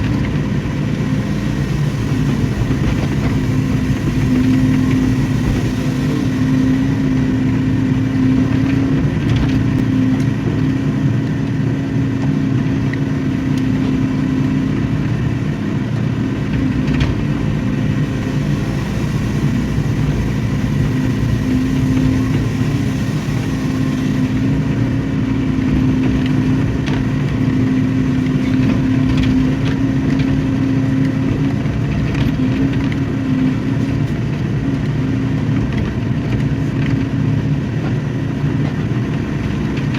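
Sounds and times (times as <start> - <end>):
excavator diesel engine drone: 0.0 - 39.9.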